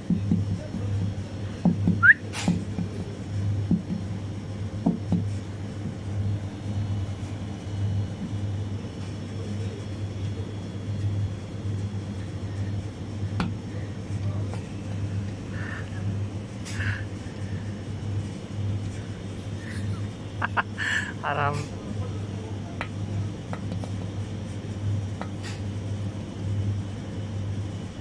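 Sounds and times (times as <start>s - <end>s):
fridge humming: 0.0s - 28.0s.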